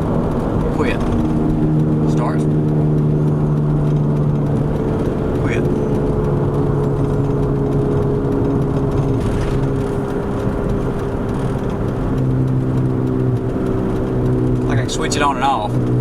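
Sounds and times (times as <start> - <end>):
low drone of wheel bearing: 0.0 - 16.0
road noise inside car: 0.0 - 16.0.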